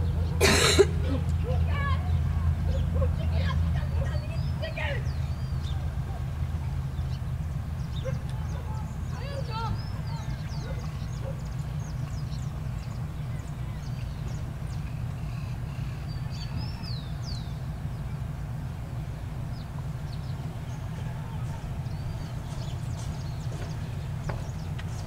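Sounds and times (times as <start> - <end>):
steady low rumble: 0.0 - 25.0
birds whistling and chirping: 1.0 - 18.3, 19.5 - 25.0.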